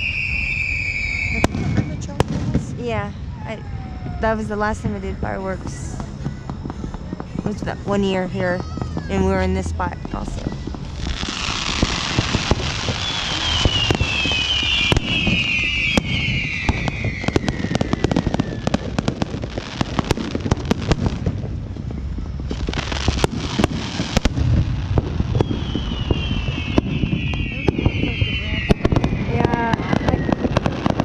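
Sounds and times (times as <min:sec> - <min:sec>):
crackling hiss: 0:00.0 - 0:31.0
fireworks popping and crackling: 0:00.0 - 0:31.0
fireworks whistling: 0:00.0 - 0:31.0.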